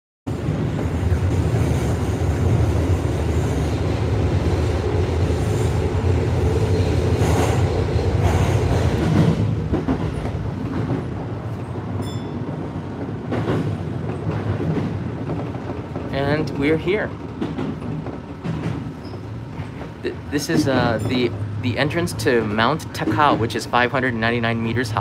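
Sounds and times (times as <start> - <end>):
train wheels rumbling on rails: 0.3 - 25.0.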